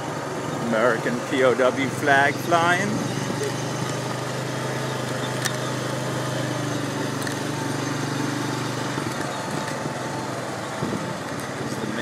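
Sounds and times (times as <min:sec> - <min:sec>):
quad engine running: 0:00.0 - 0:12.0.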